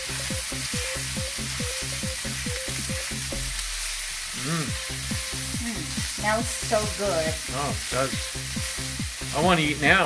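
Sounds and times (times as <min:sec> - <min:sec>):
mushrooms sizzling in oil: 0:00.0 - 0:10.0.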